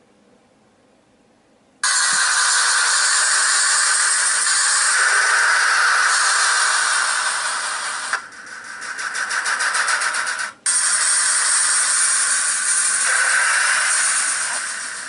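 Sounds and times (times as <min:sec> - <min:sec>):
loud rushing noise: 0:01.8 - 0:15.0.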